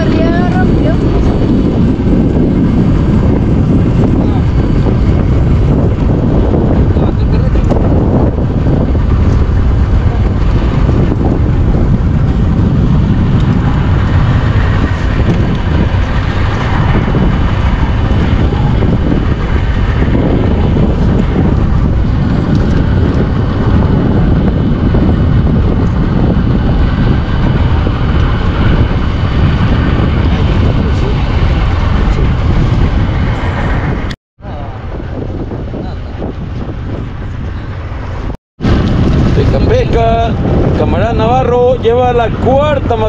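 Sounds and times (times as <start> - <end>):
boat motor running: 0.0 - 41.1
wind buffeting microphone: 0.0 - 43.0.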